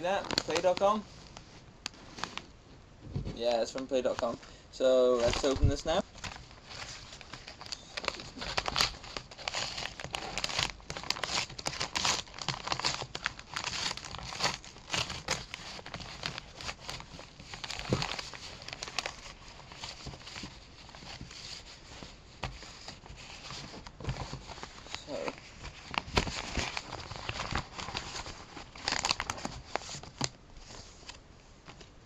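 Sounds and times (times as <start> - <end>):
paper envelope tearing and crinkling: 0.0 - 1.0, 5.2 - 31.2.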